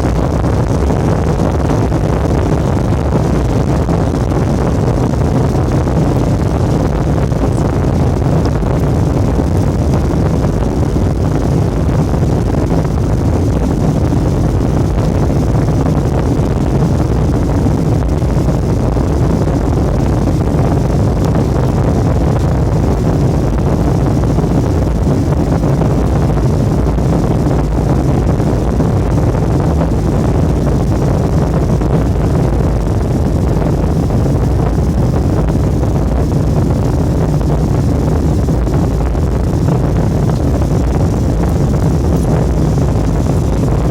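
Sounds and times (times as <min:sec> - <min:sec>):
jet engines and rushing air: 0:00.0 - 0:43.9.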